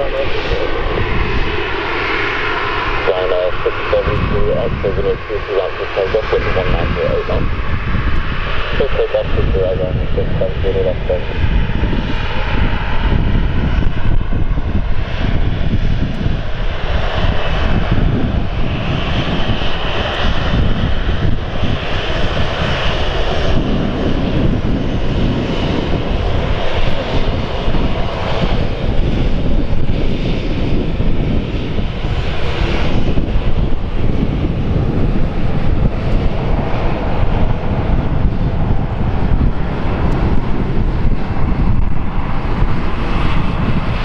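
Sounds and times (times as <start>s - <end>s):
faint engine whine: 0.0s - 44.0s
jet engines running: 0.0s - 44.0s.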